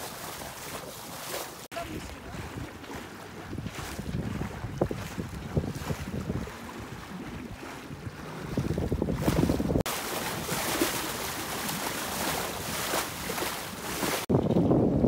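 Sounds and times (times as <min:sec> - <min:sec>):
water rushing along hull: 0:00.0 - 0:15.0
wind buffeting microphone: 0:01.8 - 0:15.0.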